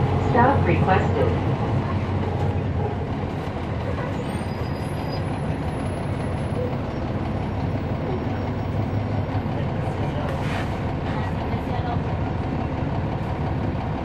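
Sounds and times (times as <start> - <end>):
bus cabin noise: 0.0 - 14.0
diesel bus engine droning: 0.0 - 14.0.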